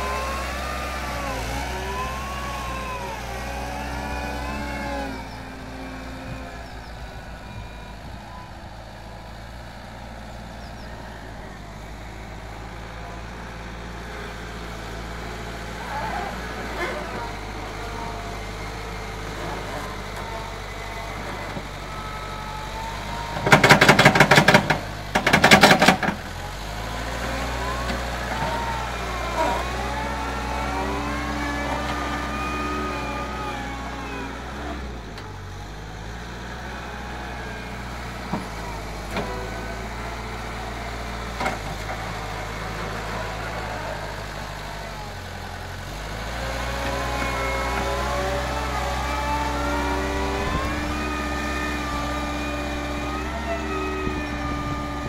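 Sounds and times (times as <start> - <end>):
diesel engine of wheel loader: 0.0 - 55.0.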